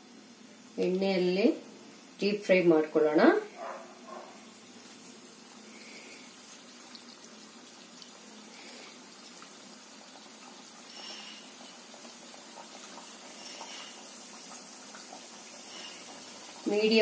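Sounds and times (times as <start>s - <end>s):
dough deep-frying in hot oil: 0.0s - 17.0s.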